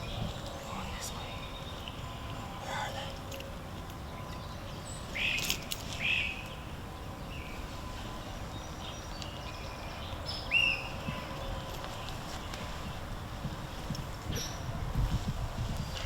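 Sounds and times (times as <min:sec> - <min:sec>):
low background hiss: 0:00.0 - 0:13.9.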